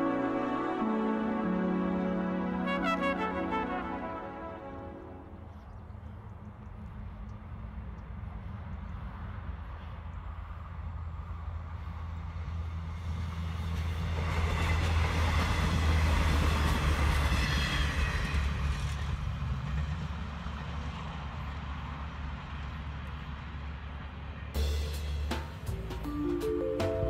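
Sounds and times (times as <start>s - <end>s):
train rumble and wheel noise: 0.0s - 27.0s.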